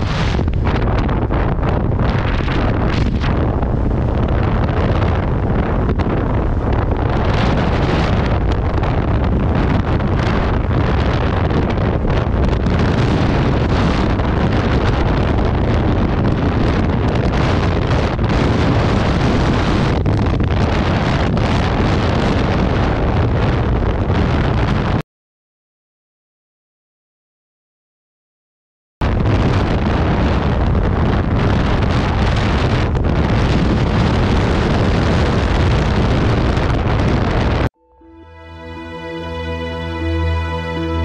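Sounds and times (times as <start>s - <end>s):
wind buffeting microphone: 0.0s - 25.0s, 29.0s - 37.8s.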